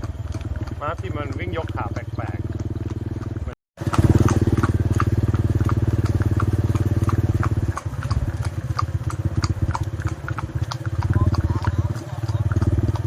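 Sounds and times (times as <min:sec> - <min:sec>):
horse hooves clopping: 0:00.0 - 0:13.0.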